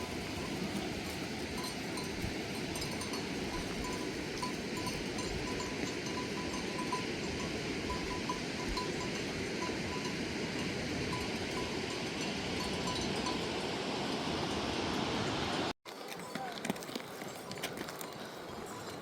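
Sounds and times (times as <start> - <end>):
livestock bells clinking: 0.0 - 14.3, 16.1 - 19.0.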